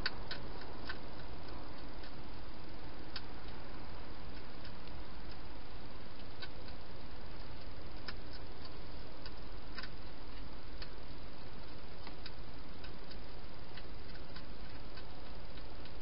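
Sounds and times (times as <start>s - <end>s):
hedgehog chewing: 0.0s - 16.0s
steady hiss: 0.0s - 16.0s.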